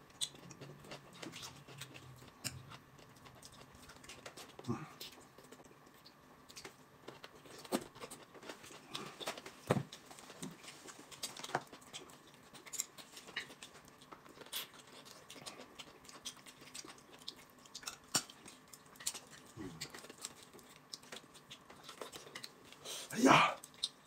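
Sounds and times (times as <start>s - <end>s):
husk tearing and chewing: 0.0s - 22.8s.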